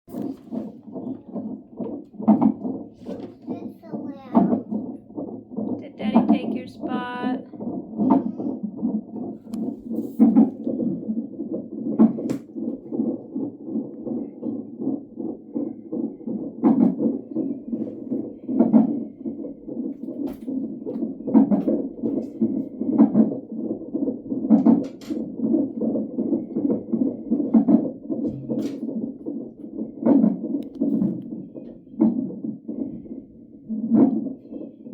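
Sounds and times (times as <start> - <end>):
rhythmic whooshing heartbeat pulse: 0.0 - 34.9.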